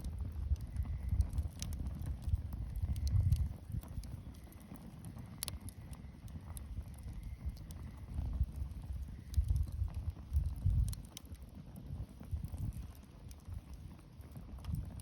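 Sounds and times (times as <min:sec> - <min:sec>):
wood bonfire burning: 0:00.0 - 0:15.0.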